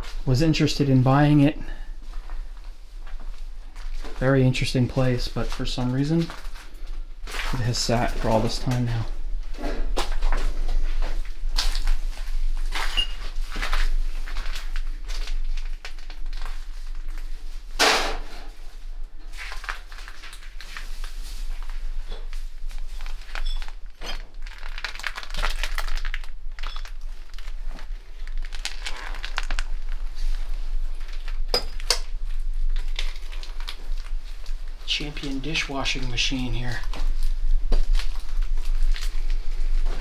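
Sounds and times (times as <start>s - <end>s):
footsteps crunching over debris: 1.7s - 17.7s, 18.5s - 40.0s.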